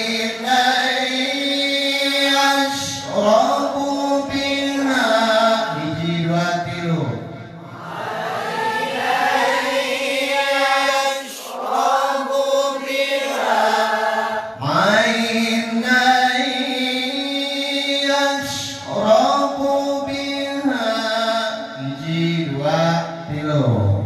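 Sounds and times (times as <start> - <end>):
man reciting melodically: 0.0 - 7.8, 10.2 - 24.0.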